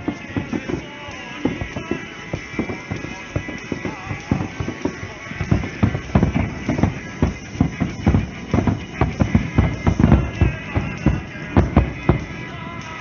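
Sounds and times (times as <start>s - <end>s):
fireworks booming: 0.0s - 13.0s
music over loudspeakers: 0.0s - 13.0s.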